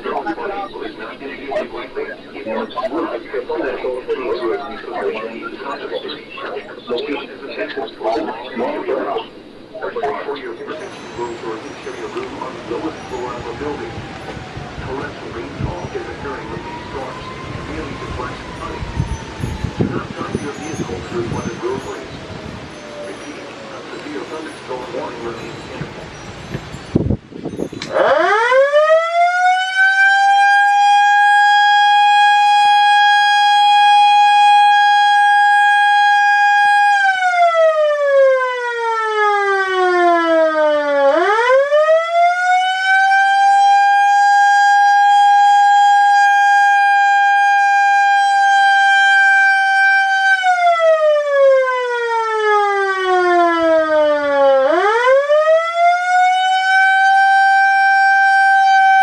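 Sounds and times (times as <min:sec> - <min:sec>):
warning siren wailing: 0:00.0 - 0:26.8, 0:27.8 - 0:59.0.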